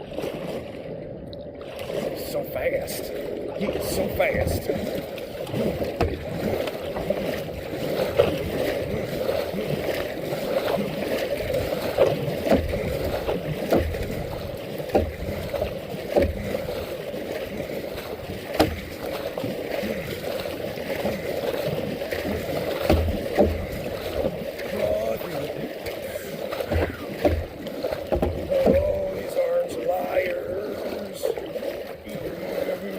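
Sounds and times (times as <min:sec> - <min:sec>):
paddle water wash: 0:00.0 - 0:32.9
paddle knocking on kayak: 0:01.7 - 0:32.9.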